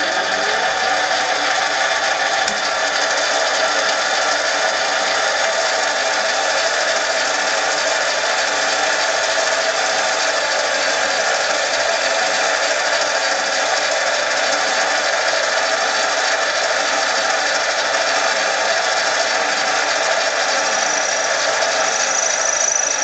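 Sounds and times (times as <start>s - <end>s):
metal lathe whirring: 0.0s - 23.0s.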